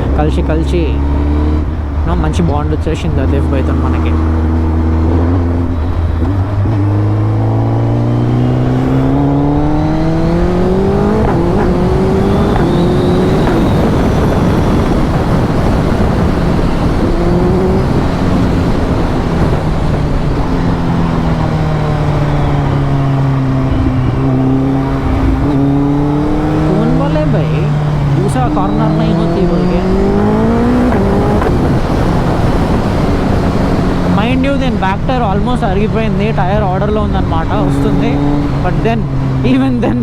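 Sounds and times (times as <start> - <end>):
motorcycle engine accelerating: 0.0 - 40.0
rushing wind noise: 0.0 - 40.0.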